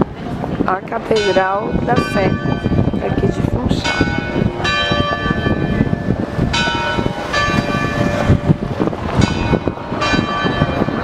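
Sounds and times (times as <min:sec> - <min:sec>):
hubbub of pedestrian street: 0:00.0 - 0:11.0
church bells ringing: 0:00.9 - 0:11.0.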